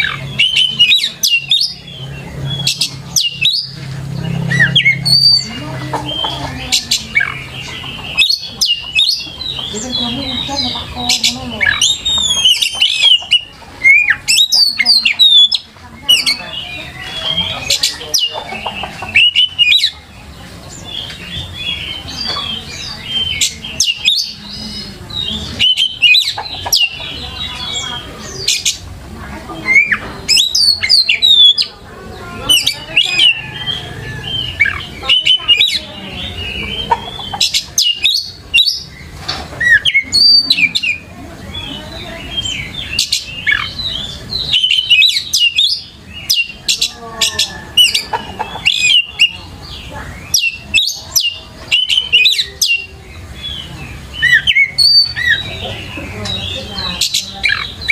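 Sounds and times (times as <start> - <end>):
bird singing whistles and trills: 0.0 - 18.4, 19.0 - 20.0, 20.7 - 28.8, 29.6 - 31.7, 37.4 - 41.1, 41.7 - 57.9.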